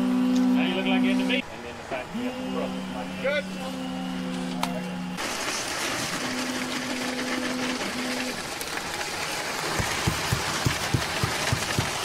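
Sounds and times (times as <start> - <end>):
concrete pump running: 0.0 - 12.0.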